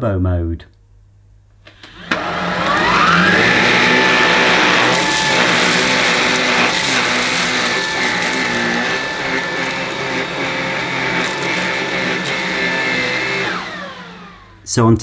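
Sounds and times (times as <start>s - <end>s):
motor winding down: 1.7s - 14.6s
vacuum motor whine: 1.7s - 14.7s.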